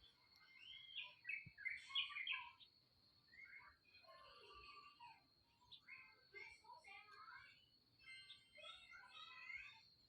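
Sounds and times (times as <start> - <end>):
faint chirping calls: 0.0 - 6.8, 7.4 - 10.0.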